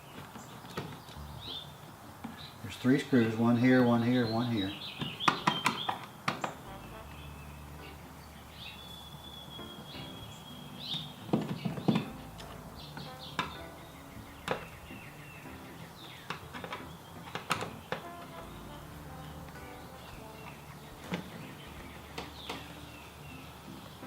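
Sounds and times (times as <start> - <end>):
faint background music: 0.0 - 24.0.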